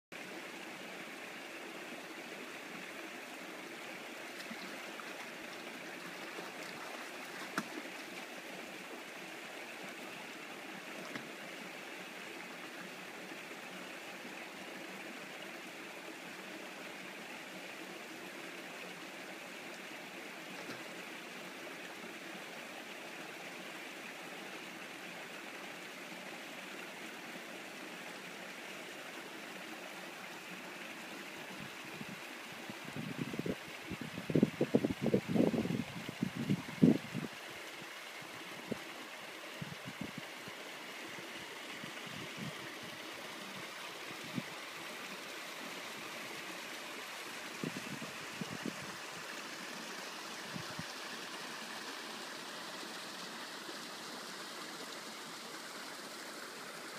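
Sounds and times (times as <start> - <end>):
stream rushing over rocks: 0.2 - 56.9.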